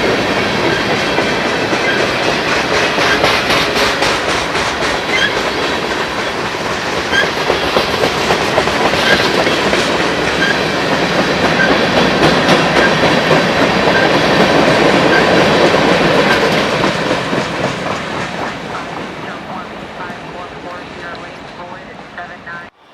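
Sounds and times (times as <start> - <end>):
train wheels clattering over rail joints: 0.1 - 19.1.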